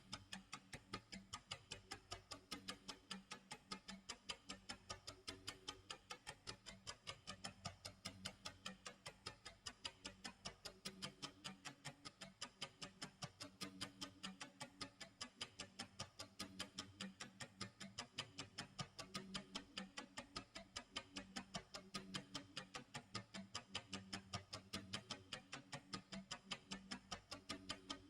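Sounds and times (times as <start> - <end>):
clock ticking: 0.0 - 28.0.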